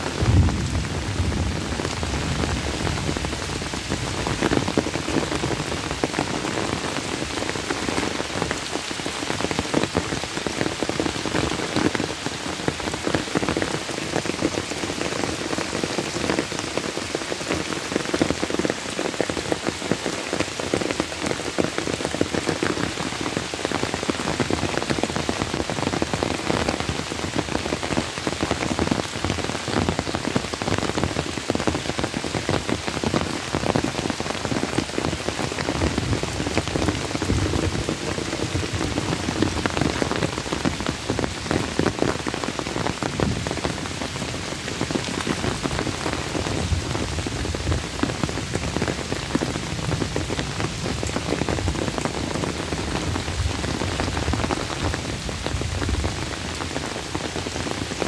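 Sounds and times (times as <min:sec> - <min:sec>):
rain pouring on water and trees: 0:00.0 - 0:58.0.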